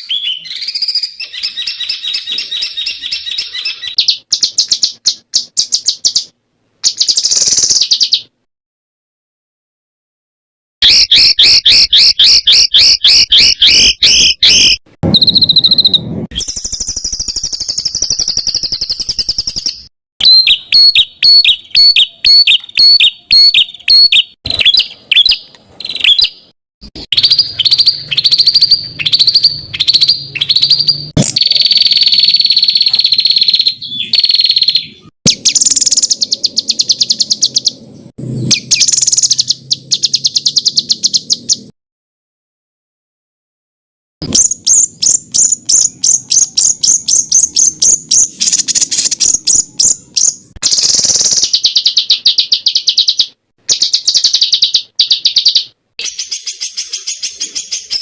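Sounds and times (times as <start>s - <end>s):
songbird song: 0.0s - 8.5s, 10.8s - 41.7s, 44.2s - 58.0s.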